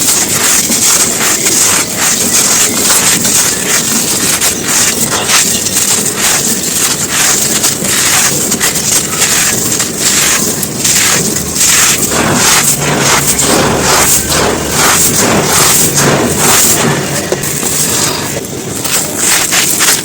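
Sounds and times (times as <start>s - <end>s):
dry chunks crunching by hand: 0.0s - 20.0s.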